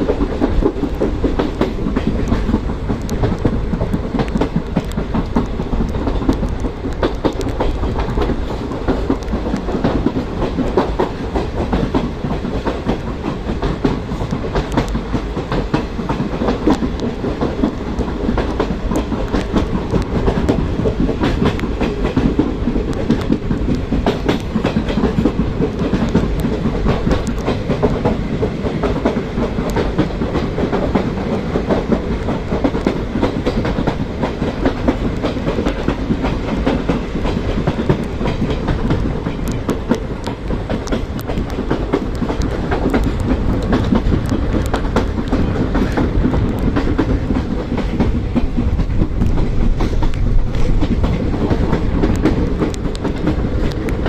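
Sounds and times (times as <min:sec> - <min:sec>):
train rumble: 0:00.0 - 0:54.0
train wheels clattering over rail joints: 0:00.0 - 0:54.0.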